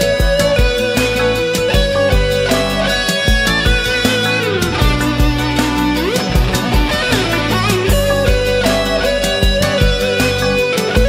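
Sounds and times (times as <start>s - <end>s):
bass and drums: 0.0s - 11.0s
electric guitar melody: 0.0s - 11.0s.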